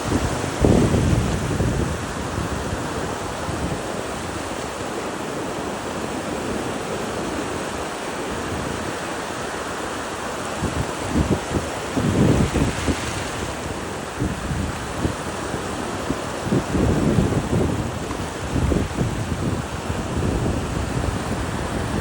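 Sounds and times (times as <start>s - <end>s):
sea surf rushing: 0.0s - 22.0s
wind on microphone: 0.0s - 22.0s.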